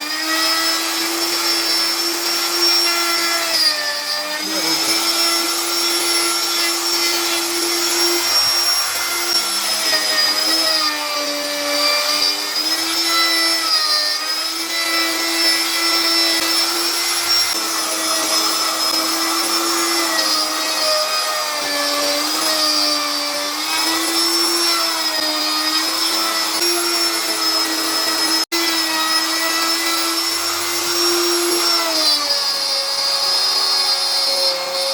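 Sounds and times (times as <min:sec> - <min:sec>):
router whining cutting wood: 0:00.0 - 0:34.9.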